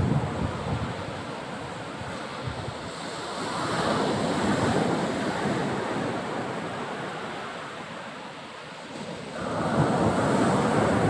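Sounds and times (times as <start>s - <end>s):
sea surf washing on shore: 0.0s - 11.0s.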